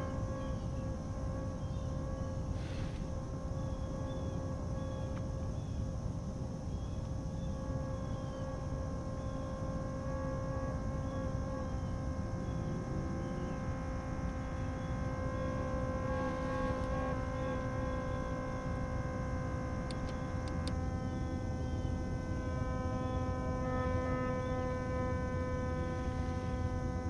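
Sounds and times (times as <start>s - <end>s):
electronic drone chord: 0.0s - 6.1s, 6.8s - 27.0s.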